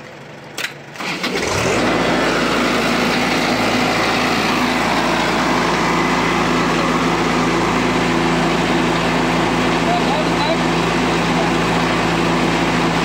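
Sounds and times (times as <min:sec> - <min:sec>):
machine engine running loudly: 0:01.0 - 0:13.0.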